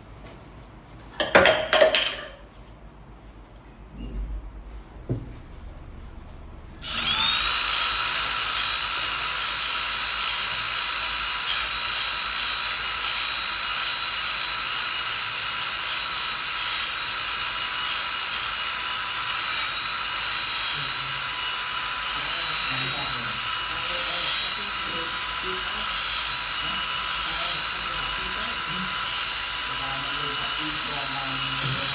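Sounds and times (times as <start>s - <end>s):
belt sander whining: 5.7s - 31.9s.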